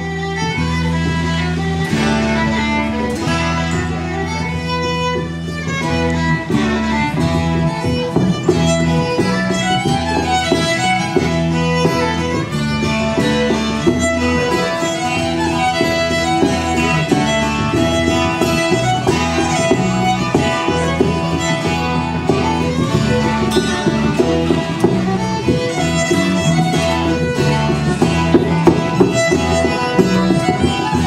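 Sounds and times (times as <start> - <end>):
electric bass line: 0.0 - 31.0
fiddle melody: 0.0 - 31.0
strummed acoustic guitar: 0.0 - 31.0.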